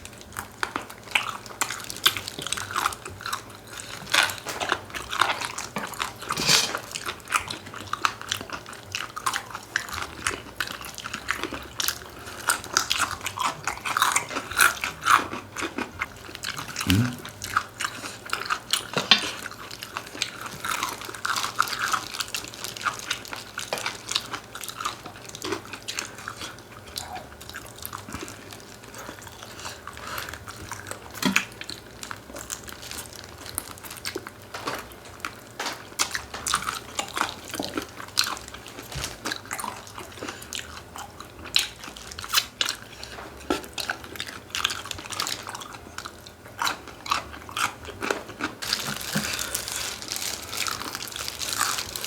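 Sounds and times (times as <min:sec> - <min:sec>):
chewing and biting food: 0:00.0 - 0:52.0.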